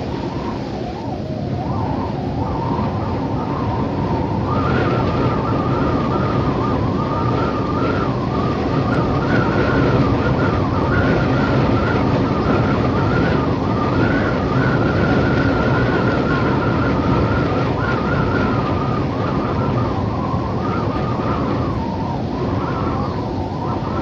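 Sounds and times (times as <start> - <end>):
wind whistling: 0.0 - 24.0.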